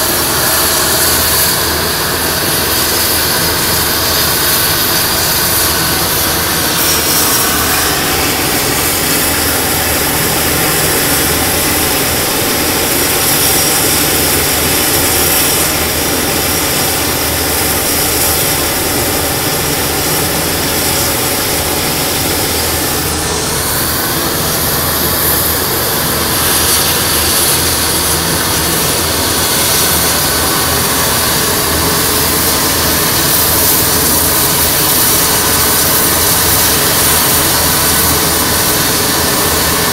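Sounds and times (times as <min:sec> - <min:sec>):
helicopter engine and rotor whine: 0:00.0 - 0:39.9.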